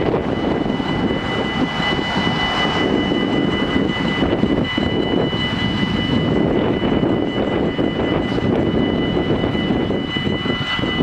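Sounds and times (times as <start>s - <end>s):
level crossing warning bells: 0.0s - 11.0s
loud rumbling noise: 0.0s - 11.0s.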